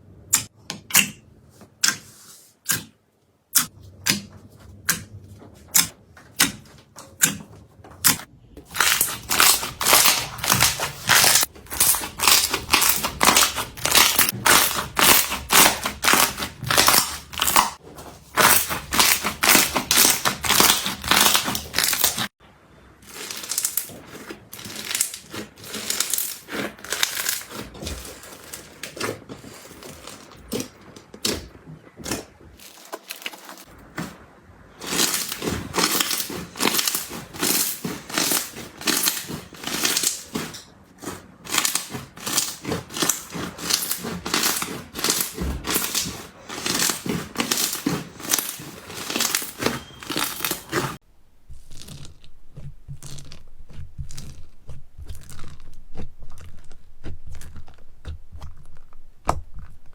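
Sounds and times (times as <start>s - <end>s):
slime popping and crunching: 8.1s - 22.3s, 23.0s - 34.1s, 34.8s - 59.9s.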